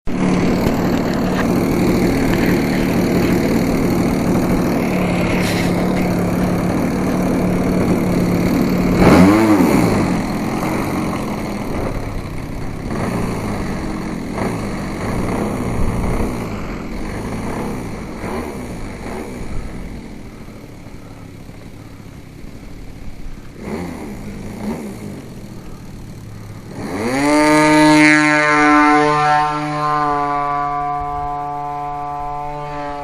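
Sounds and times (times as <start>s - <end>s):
model plane engine running: 0.1s - 33.0s.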